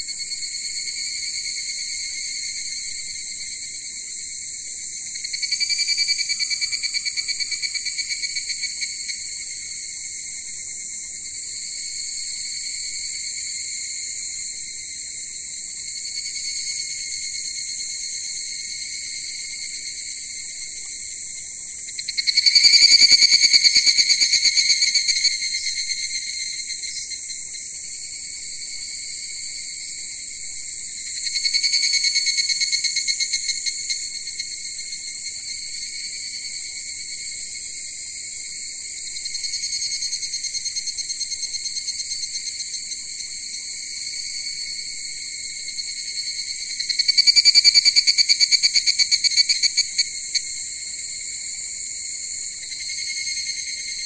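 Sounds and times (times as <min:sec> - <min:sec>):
insect chorus drone: 0:00.0 - 0:54.0
rapid pulsing insect trill: 0:00.0 - 0:54.0.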